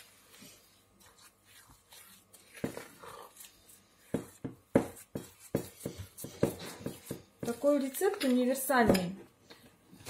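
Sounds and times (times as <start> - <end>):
dough squelching under hands: 0.0 - 8.5.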